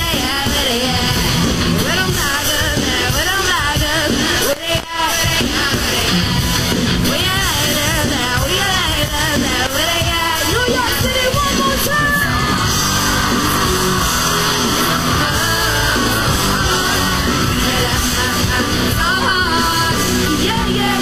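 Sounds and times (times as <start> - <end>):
song with instrumental backing: 0.0 - 21.0.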